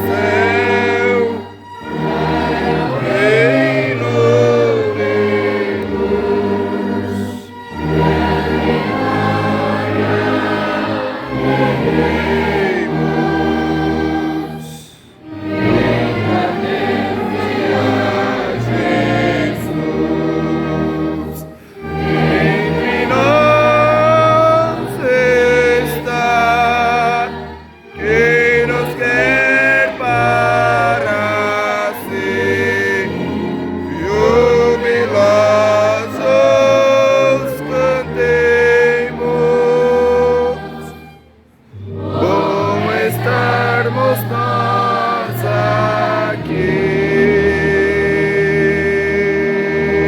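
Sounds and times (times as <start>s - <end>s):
choir singing a hymn: 0.0s - 50.0s
instrumental accompaniment: 0.0s - 50.0s.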